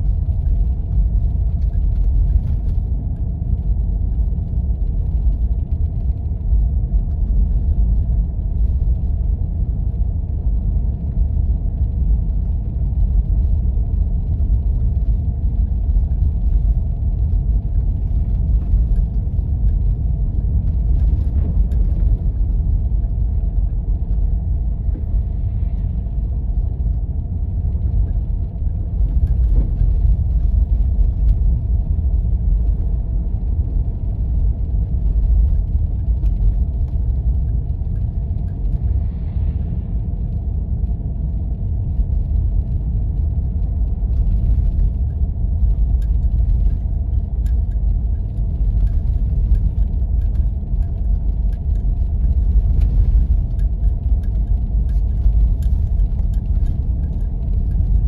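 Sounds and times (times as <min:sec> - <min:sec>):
engine and tyres rumbling on snow: 0:00.0 - 0:58.0.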